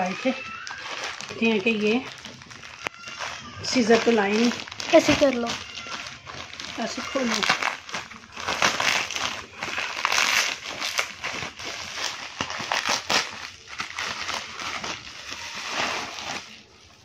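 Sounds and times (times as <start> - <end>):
plastic bag and bubble wrap crinkling: 0.0 - 17.0.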